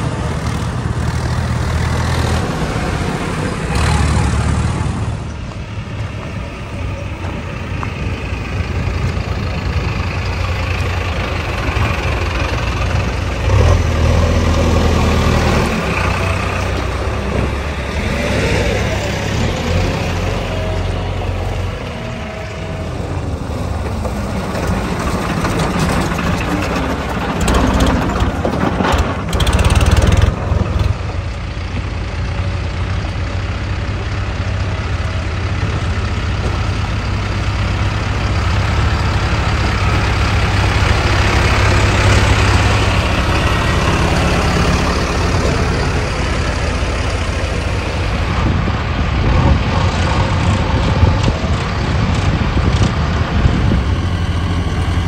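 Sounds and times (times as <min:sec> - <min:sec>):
diesel engines driving past: 0:00.0 - 0:55.0.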